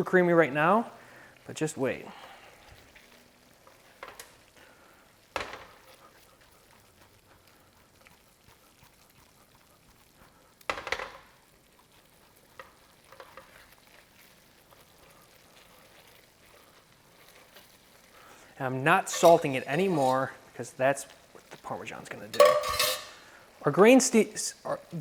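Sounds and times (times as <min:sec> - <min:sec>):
risotto sizzling in a pan: 0:00.0 - 0:25.0
sizzling scrapes of stirring: 0:00.0 - 0:25.0.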